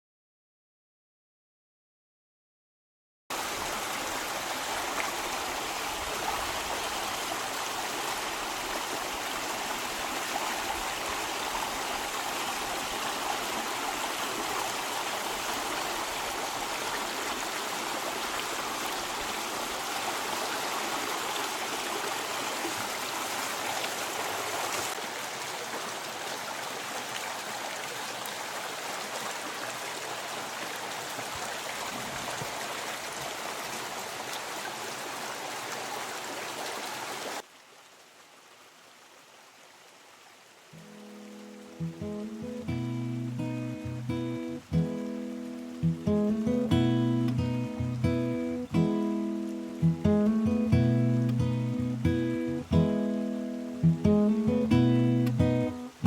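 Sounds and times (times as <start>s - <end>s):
stream running: 3.3s - 56.0s.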